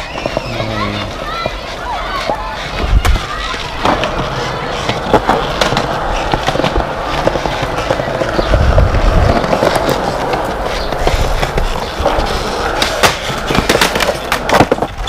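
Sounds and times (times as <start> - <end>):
skateboard wheels rolling on concrete: 0.0 - 15.0
skateboards clacking on ground: 0.0 - 15.0.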